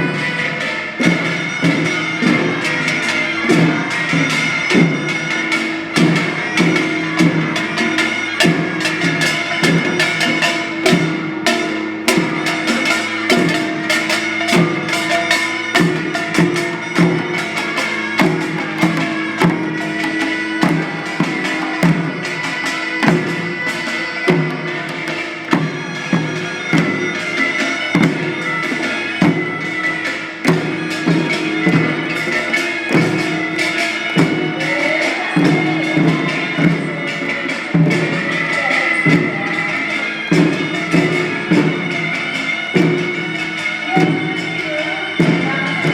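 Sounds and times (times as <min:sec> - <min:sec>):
drums and percussion beat: 0:00.0 - 0:45.9.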